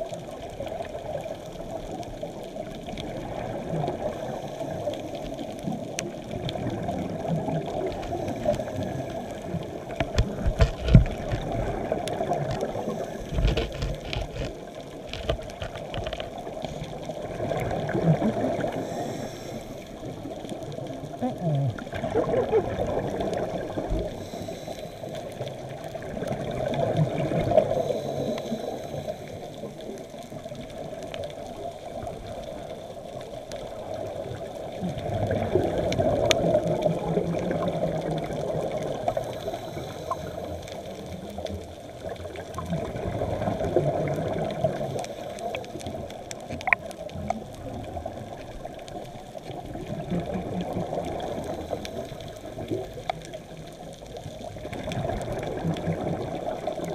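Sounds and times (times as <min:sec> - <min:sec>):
faint clicks: 0:00.0 - 0:56.9
low steady gurgle: 0:00.0 - 0:56.9
underwater bubbling exhalations: 0:00.0 - 0:56.9.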